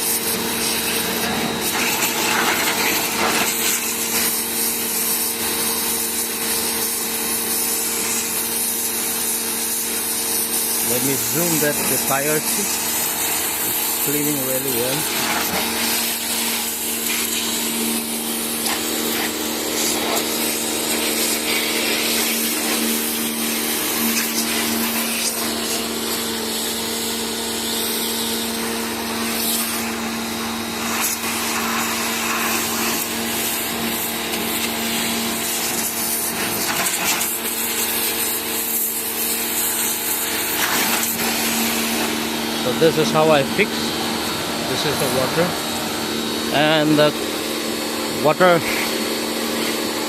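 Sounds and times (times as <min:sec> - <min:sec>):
pressure washer motor hum: 0:00.0 - 0:50.0
water jet spraying on tyre: 0:00.0 - 0:50.0.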